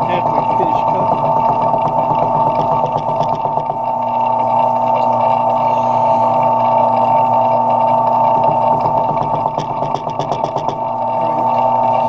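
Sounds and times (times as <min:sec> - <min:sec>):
metal lathe whining: 0:00.0 - 0:12.0.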